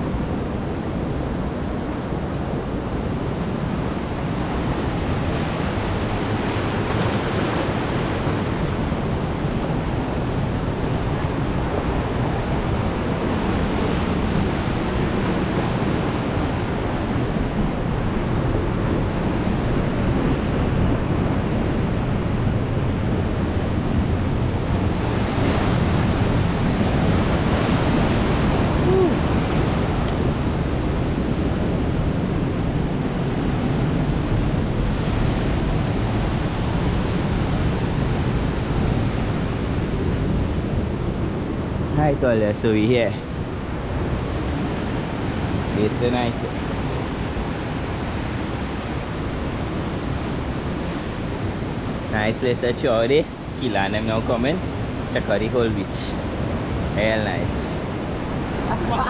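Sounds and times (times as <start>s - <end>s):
heavy surf breaking on rocks: 0.0s - 59.0s
wind buffeting microphone: 0.0s - 59.0s.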